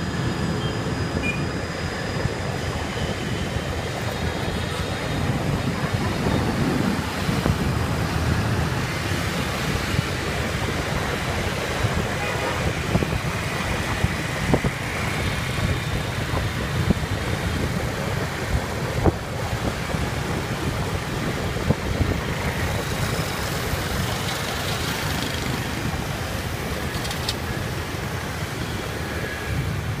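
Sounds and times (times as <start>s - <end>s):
wind buffeting microphone: 0.0s - 28.5s
motorbike traffic rumble: 0.0s - 30.0s.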